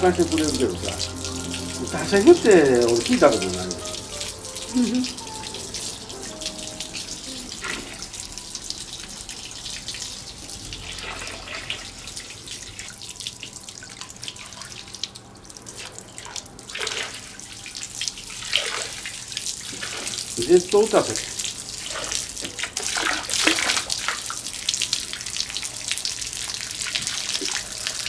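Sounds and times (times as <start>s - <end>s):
water pouring and splashing: 0.0s - 28.0s.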